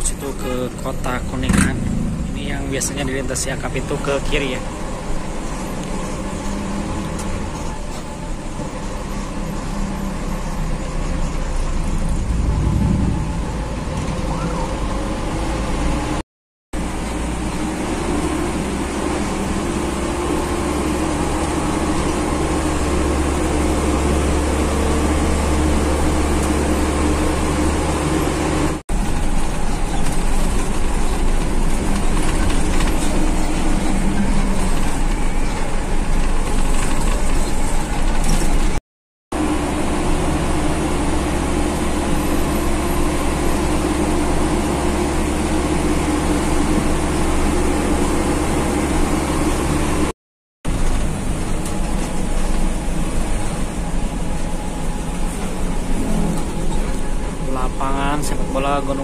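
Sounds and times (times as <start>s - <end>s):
bus engine running: 0.0s - 16.2s, 16.8s - 59.0s
road noise: 0.0s - 16.2s, 16.8s - 59.0s.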